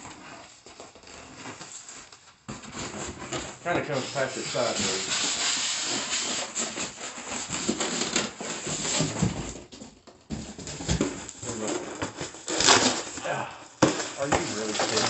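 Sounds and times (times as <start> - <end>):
styrofoam scraping against cardboard: 0.0 - 15.0.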